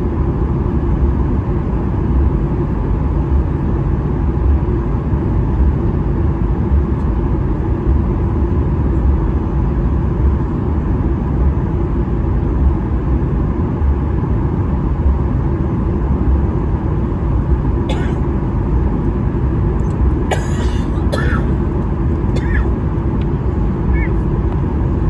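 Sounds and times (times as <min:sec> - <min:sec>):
faint steady hum: 0:00.0 - 0:25.0
jet engines idling rumble: 0:00.0 - 0:25.0.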